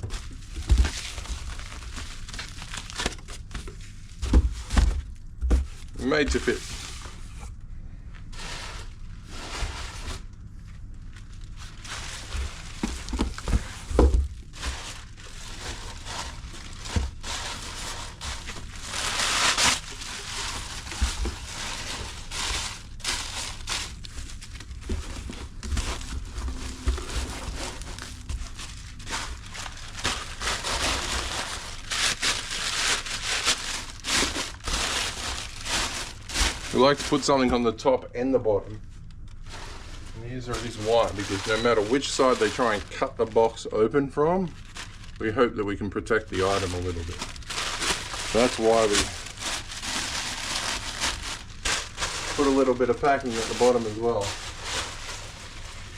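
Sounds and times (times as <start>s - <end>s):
packing material crinkling: 0.0s - 7.4s, 8.2s - 37.7s, 39.1s - 43.7s, 44.4s - 45.4s, 46.1s - 55.9s.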